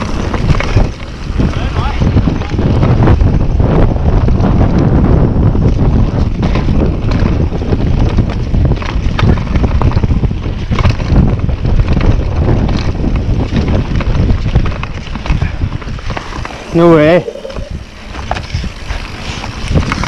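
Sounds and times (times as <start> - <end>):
bike knocks and rattles: 0.0 - 16.7
tyres rolling on dirt trail: 0.0 - 20.0
wind buffeting microphone: 0.0 - 20.0.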